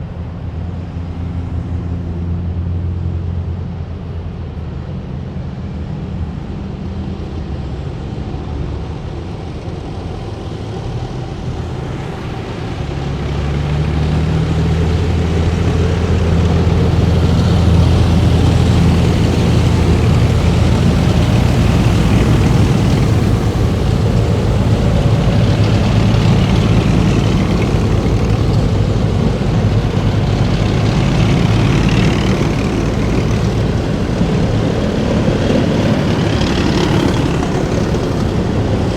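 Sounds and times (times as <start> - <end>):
heavy diesel vehicles driving past: 0.0 - 38.9.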